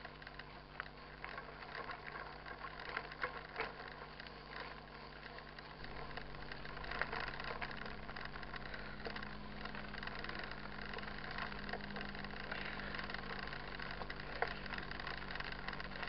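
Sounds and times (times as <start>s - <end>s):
bike clicks and rattles: 0.0s - 16.0s
bike tyres crunching gravel: 0.0s - 16.0s
faint steady hum: 0.0s - 16.0s.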